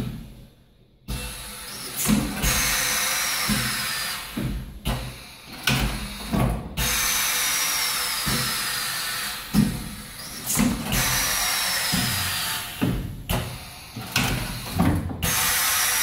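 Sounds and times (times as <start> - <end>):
pneumatic hiss: 1.1 - 16.0.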